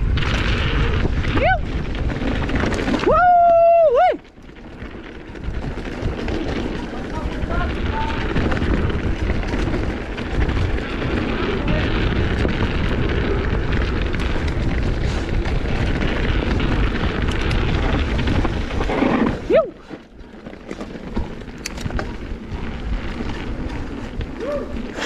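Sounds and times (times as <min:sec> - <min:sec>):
wind buffeting the microphone: 0:00.0 - 0:20.4
tyres rumbling over dirt: 0:00.0 - 0:25.0.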